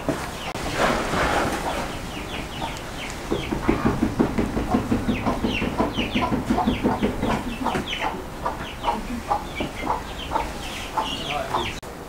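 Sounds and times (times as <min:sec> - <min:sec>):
chickens clucking: 0:00.0 - 0:11.8.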